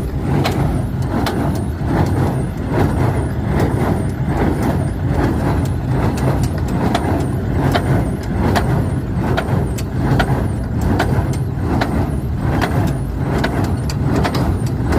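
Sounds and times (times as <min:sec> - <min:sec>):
baler mechanical clicks and knocks: 0:00.0 - 0:14.9
engine hum: 0:00.0 - 0:14.9.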